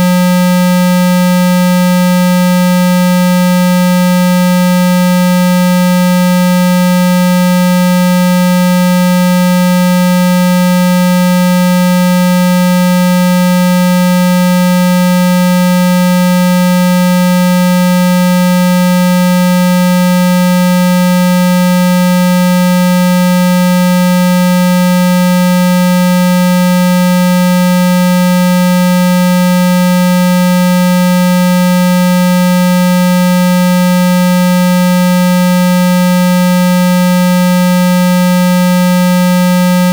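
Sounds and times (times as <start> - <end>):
low buzzing tone from phone speaker: 0.0 - 39.9.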